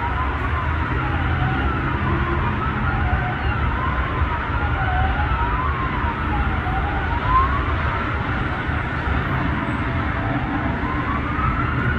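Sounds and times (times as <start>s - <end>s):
wailing emergency siren: 0.0s - 11.9s.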